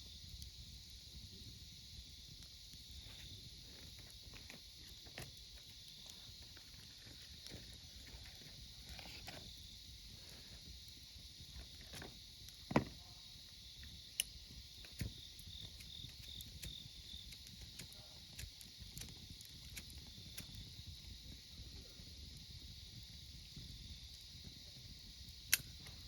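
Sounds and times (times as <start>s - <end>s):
campfire crackling: 0.0s - 26.0s
fire popping: 0.0s - 26.0s
insects chirping: 0.0s - 26.0s.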